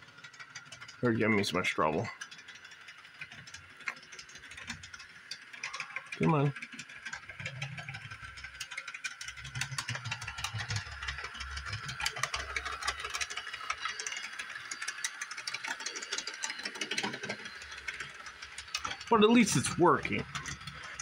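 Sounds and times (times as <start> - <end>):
low motor hum: 0.0 - 21.0
model railcar clicks and rattles: 0.0 - 21.0.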